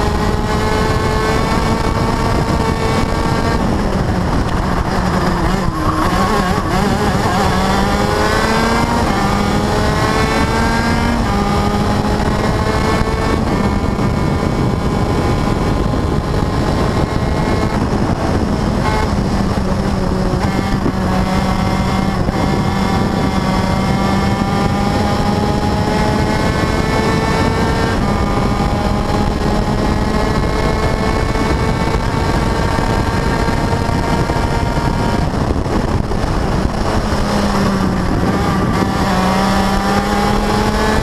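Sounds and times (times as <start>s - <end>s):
race car engine accelerating: 0.0s - 41.0s
steady rush of noise: 0.0s - 41.0s.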